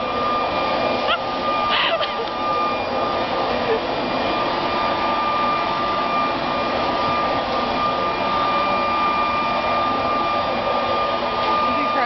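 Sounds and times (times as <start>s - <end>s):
leaf blower motor whine: 0.0s - 12.0s.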